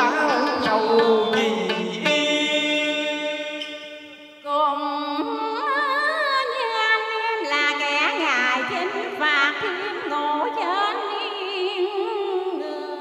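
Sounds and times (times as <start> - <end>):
stage music with wavering notes: 0.0 - 13.0.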